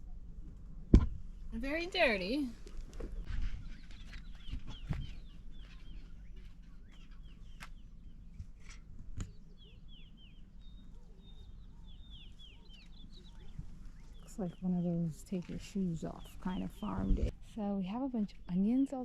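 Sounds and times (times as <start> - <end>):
small birds chirping: 1.1 - 19.0.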